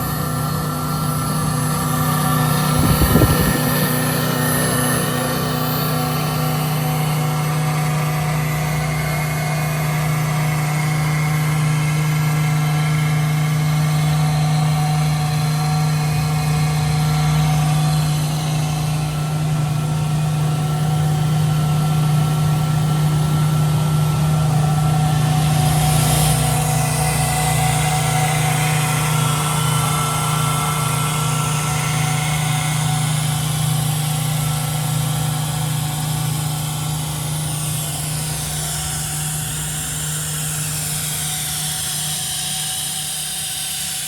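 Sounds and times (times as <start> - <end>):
air compressor running: 0.0 - 44.0.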